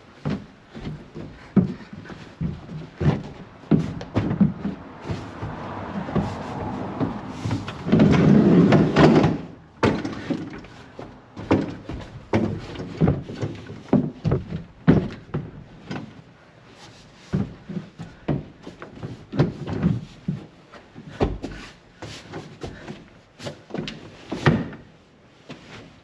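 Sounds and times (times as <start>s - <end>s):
knocks and thumps in truck bed: 0.1s - 16.3s, 17.2s - 26.0s.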